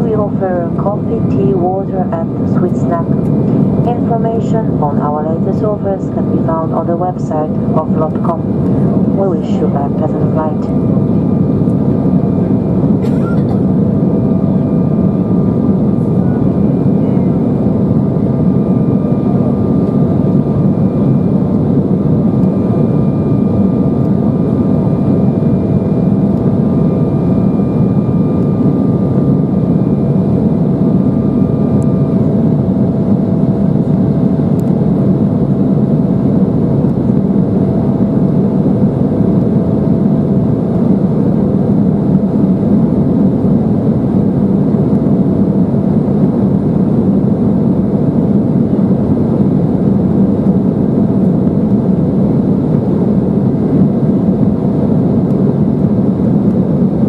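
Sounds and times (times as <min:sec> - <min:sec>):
jet engines humming in cabin: 0:00.0 - 0:57.0.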